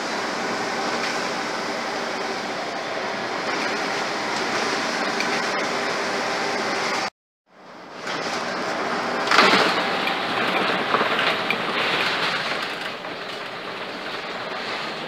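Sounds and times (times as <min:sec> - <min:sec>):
bus diesel engine drone: 0:00.0 - 0:15.0
road noise: 0:00.0 - 0:15.0.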